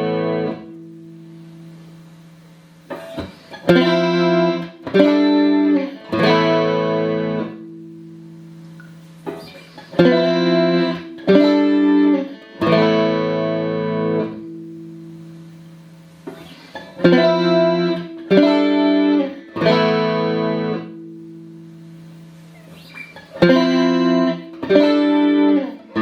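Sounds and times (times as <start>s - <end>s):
clean electric guitar chords: 0.0s - 2.1s, 2.9s - 26.0s.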